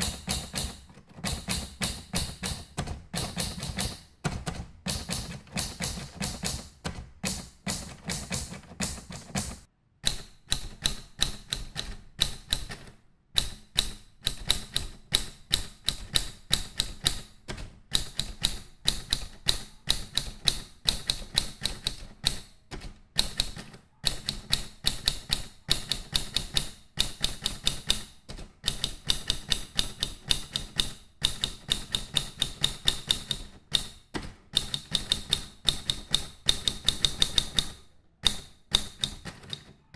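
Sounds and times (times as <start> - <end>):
typewriter key strikes: 0.0 - 39.7.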